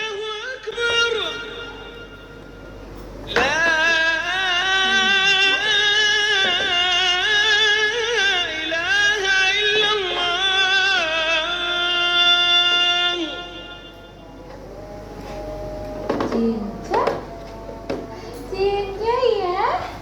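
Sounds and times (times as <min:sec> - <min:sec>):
wavering singing-like melody: 0:00.0 - 0:19.6.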